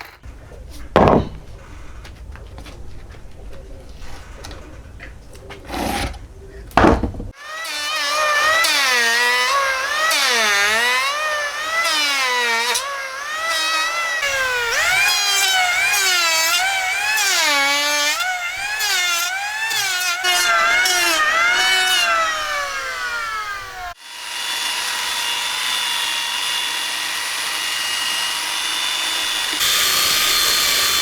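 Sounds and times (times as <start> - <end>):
power tool motor whining: 4.2 - 31.0.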